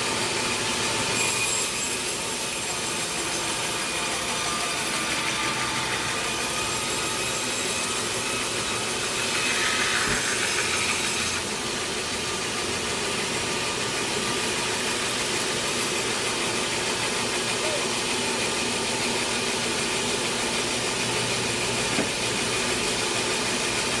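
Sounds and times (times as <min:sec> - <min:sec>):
sawmill saw cutting wood: 0:00.0 - 0:24.0.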